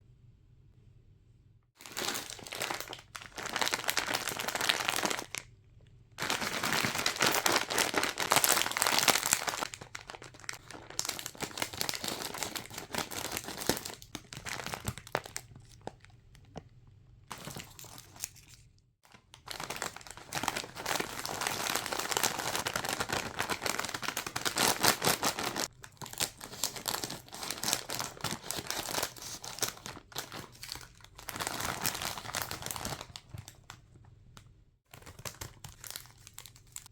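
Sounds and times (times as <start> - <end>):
wrappers crinkling: 1.8 - 5.5, 6.2 - 16.6, 17.3 - 33.8, 34.9 - 36.9.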